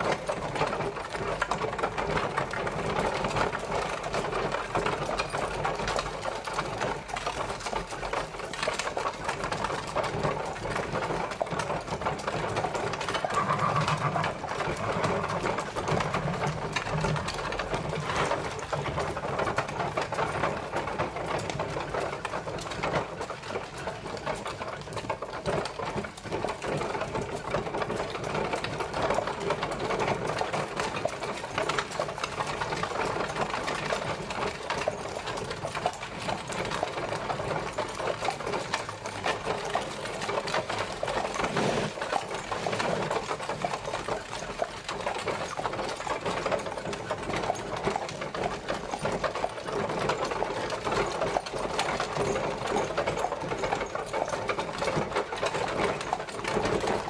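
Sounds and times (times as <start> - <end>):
carriage wheels rattling: 0.0 - 57.0.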